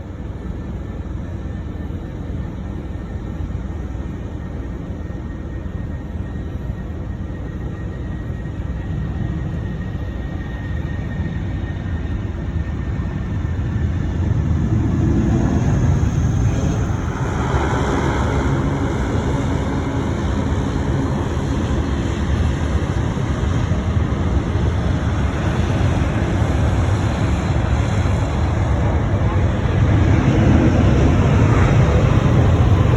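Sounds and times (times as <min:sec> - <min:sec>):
jet engines rumbling: 0:00.0 - 0:32.9.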